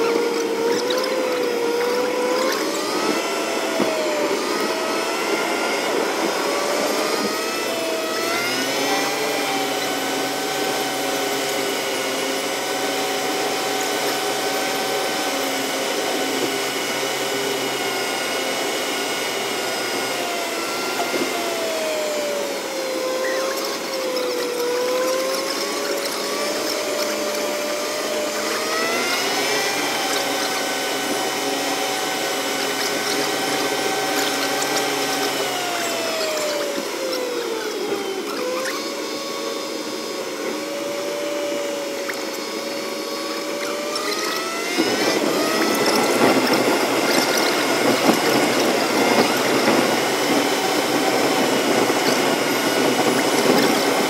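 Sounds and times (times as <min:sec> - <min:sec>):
high whining engine hum: 0:00.0 - 0:54.0.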